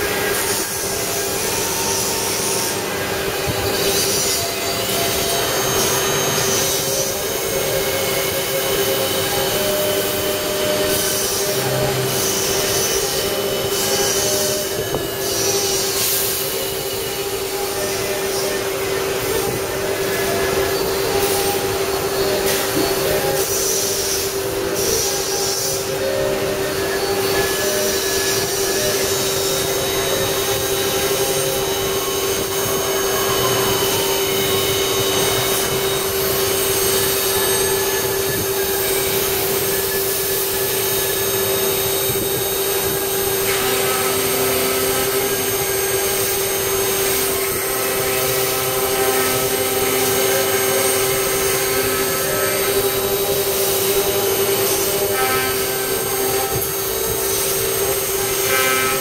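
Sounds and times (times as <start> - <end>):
cnc router whine: 0.0 - 59.0.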